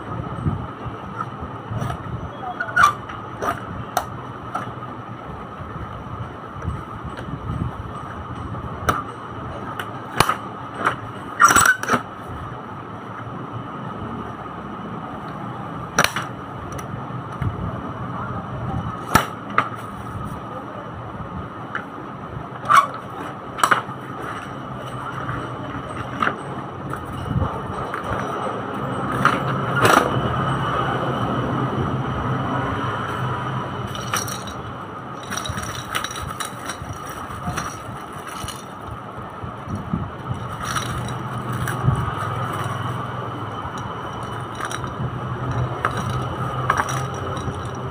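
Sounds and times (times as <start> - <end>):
steady background hum: 0.0 - 47.9.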